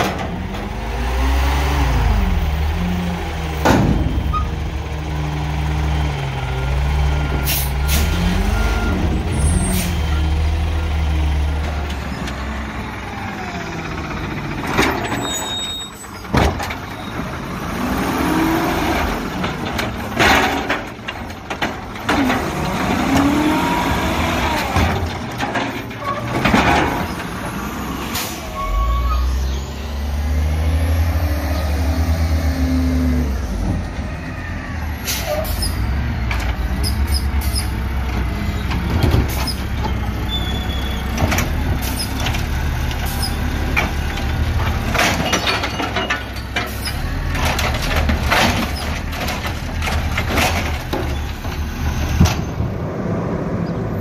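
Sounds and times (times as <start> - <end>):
garbage truck engine revving: 0.0 - 15.4, 16.2 - 54.0
truck arm lifting cart: 0.0 - 34.1, 35.0 - 53.0.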